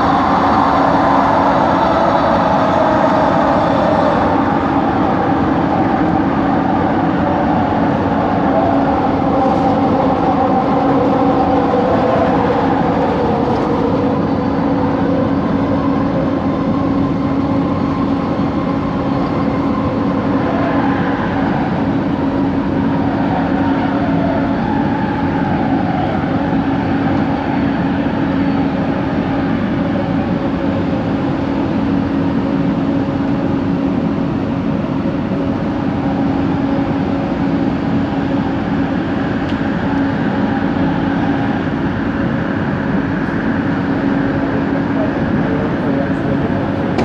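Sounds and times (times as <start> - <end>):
train car running noise: 0.0 - 47.0.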